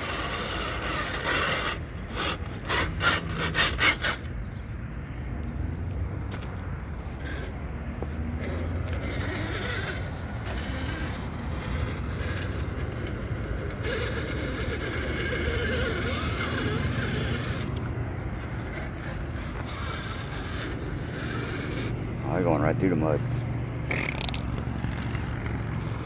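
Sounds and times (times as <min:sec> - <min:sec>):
tyres churning through mud: 0:00.0 - 0:04.3, 0:07.0 - 0:26.0
toy truck motor whirring: 0:00.0 - 0:04.8, 0:06.3 - 0:26.0.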